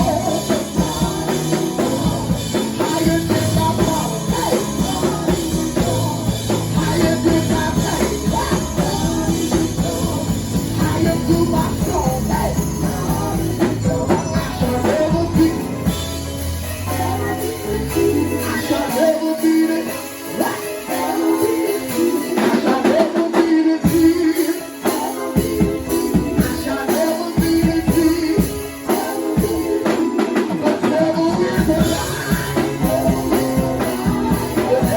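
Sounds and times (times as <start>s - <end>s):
band playing with drum kit: 0.0s - 34.9s
voices singing: 0.0s - 34.9s.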